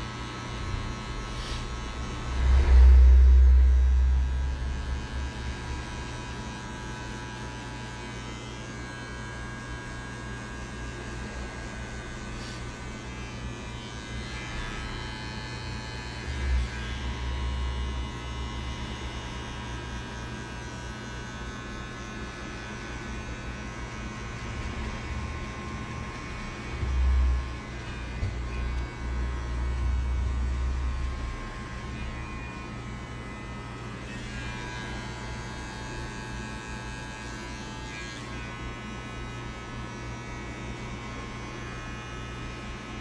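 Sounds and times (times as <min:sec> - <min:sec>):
electric hair clippers buzzing: 0:00.0 - 0:43.0.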